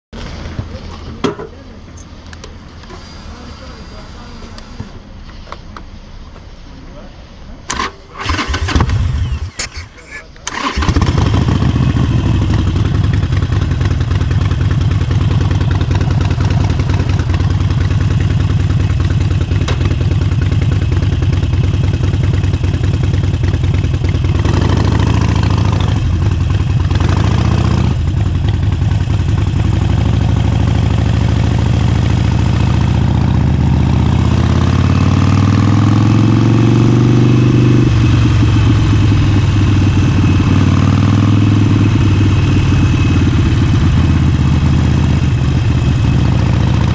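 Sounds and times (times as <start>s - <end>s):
motorcycle engine idling and accelerating: 0.1s - 6.5s, 7.7s - 46.9s.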